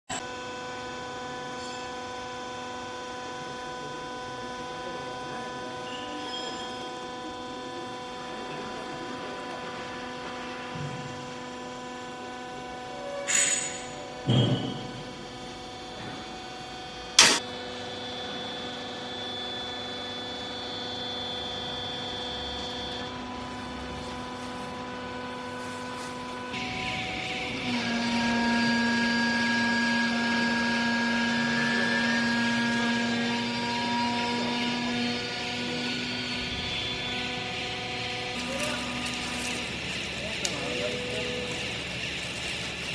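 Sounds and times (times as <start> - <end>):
electric motor hum: 0.1 - 42.9.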